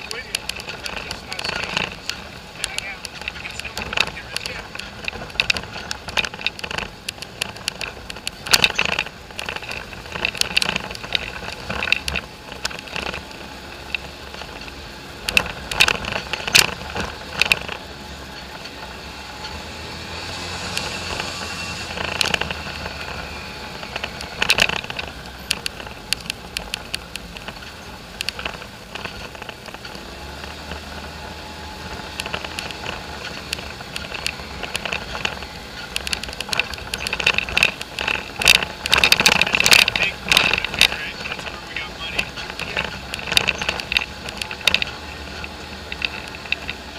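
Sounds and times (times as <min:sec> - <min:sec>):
four-wheeler engine: 0:00.0 - 0:46.9
rattles and knocks over ruts: 0:00.0 - 0:46.9.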